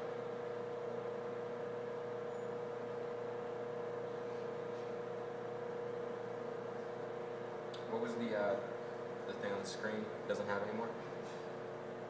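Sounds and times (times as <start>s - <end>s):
pump humming: 0.0s - 12.0s.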